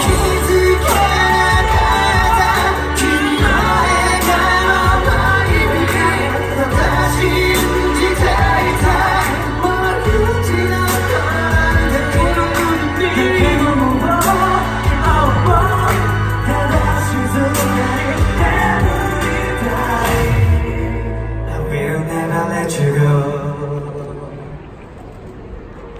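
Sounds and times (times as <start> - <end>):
pop song with singing: 0.0 - 24.4.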